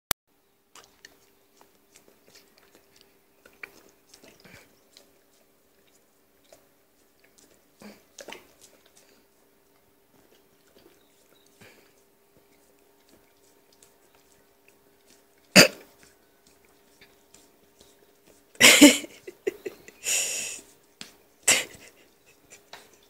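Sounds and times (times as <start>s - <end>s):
dog crunching a popsicle: 0.7s - 20.0s.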